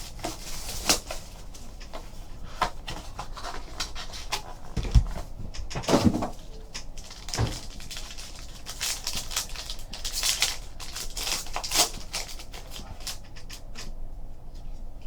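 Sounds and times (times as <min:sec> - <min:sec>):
packaging crinkling and rustling: 0:00.0 - 0:13.6.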